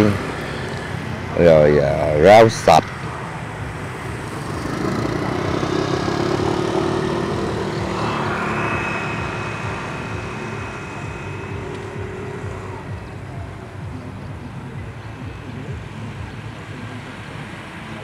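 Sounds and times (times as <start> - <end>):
thin high whine: 0.0 - 15.7.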